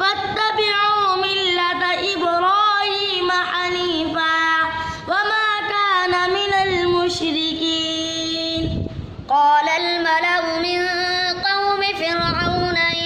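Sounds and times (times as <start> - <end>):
boy chanting recitation: 0.0 - 13.0.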